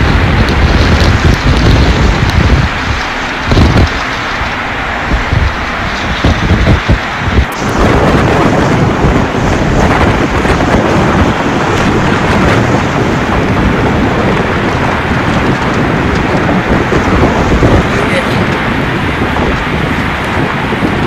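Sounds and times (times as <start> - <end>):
heavy rain and strong wind: 0.0 - 21.0
wind buffeting the microphone: 0.0 - 21.0.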